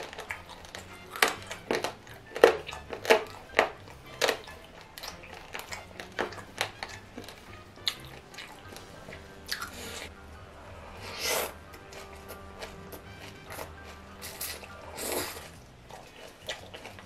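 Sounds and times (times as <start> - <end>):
quiet background music: 0.0 - 17.0
wet crunchy chewing: 0.0 - 17.0.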